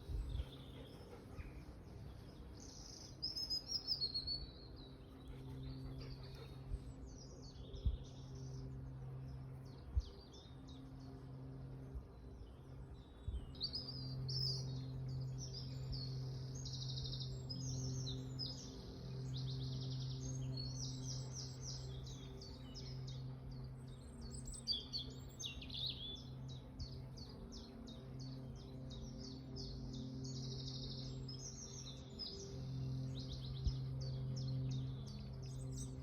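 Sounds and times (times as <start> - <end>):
songbirds singing: 0.0 - 36.0
steady low hum: 0.0 - 36.0.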